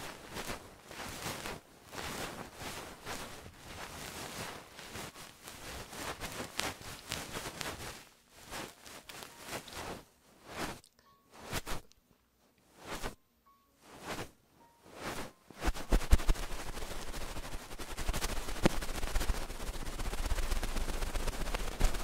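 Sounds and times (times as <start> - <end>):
tools scratching on microphone: 0.0 - 12.0, 15.0 - 22.0.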